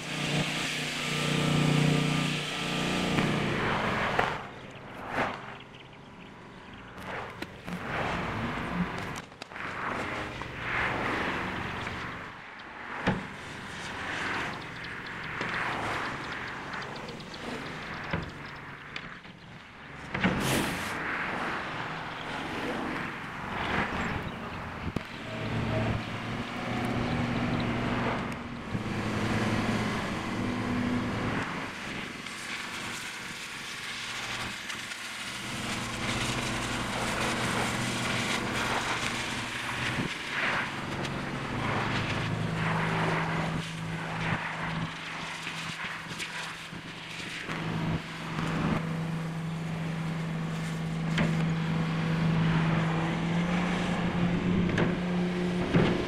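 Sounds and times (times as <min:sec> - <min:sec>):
heavy equipment engine running: 0:00.0 - 0:56.0.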